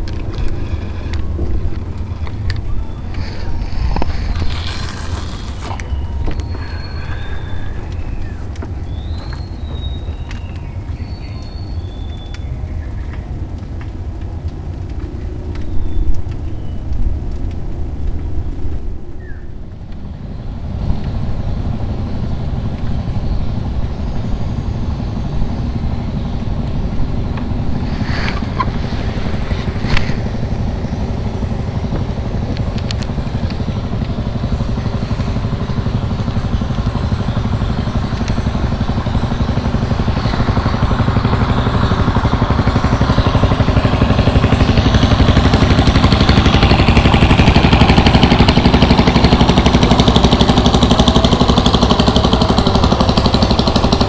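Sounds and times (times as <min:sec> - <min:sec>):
boat engine pulsing: 0:00.0 - 0:54.0.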